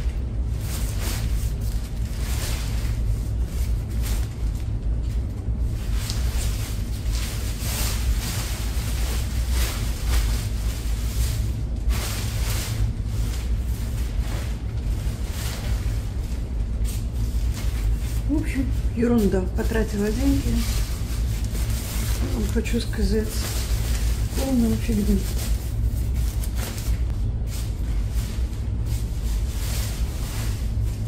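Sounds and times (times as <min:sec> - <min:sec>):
fabric cover rustling: 0:00.0 - 0:31.0
steady low rumble: 0:00.0 - 0:31.0.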